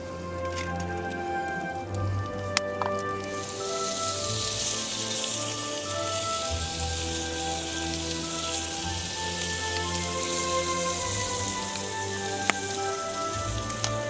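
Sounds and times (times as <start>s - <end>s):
soft background music: 0.0s - 14.0s
steady high hiss: 0.0s - 14.0s.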